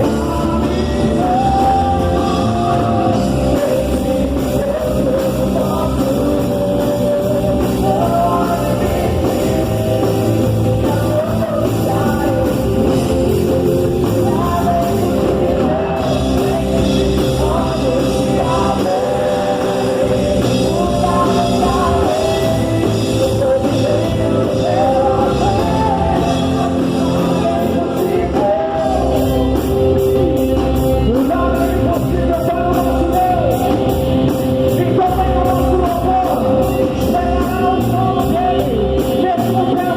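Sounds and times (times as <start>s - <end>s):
person singing with amplified band: 0.0s - 39.9s.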